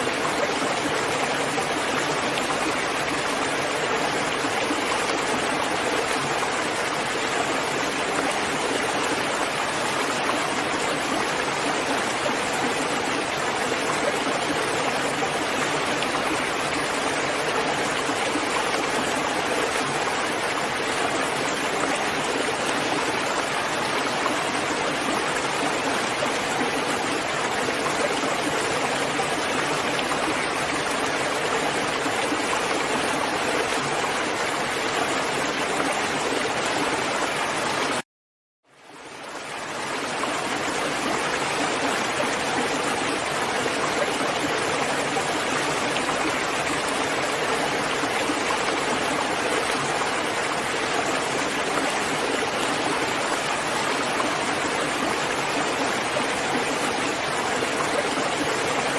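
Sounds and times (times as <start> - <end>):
steady dense rain: 0.0 - 38.0, 38.7 - 58.9.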